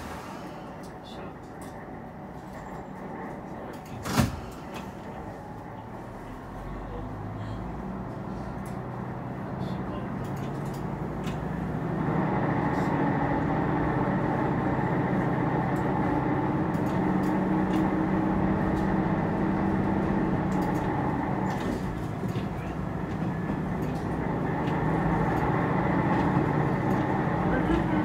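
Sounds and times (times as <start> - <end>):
diesel train engine droning: 0.0 - 28.0.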